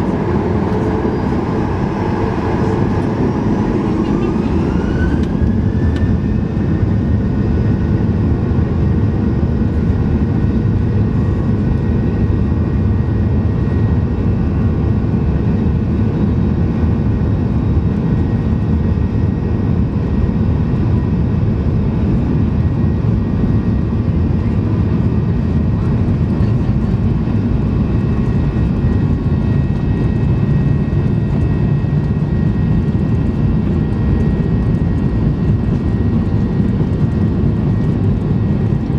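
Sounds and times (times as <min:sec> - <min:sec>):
jet engine noise in cabin: 0:00.0 - 0:38.9.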